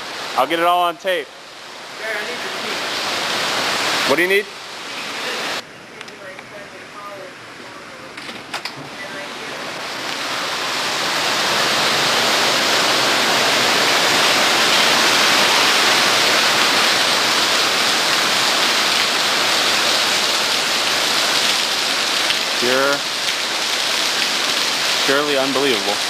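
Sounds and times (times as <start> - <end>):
water falling in heavy rush: 0.0 - 5.6, 8.8 - 26.0.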